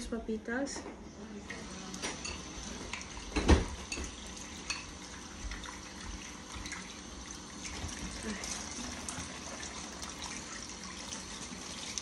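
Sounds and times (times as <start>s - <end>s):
tap water running into bowl: 1.5s - 12.0s.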